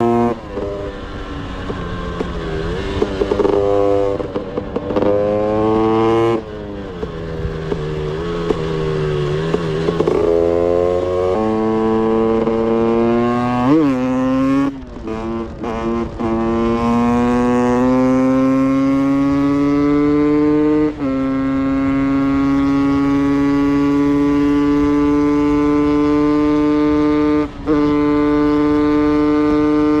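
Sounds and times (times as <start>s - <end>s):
dirt bike engine at full throttle: 0.0s - 30.0s.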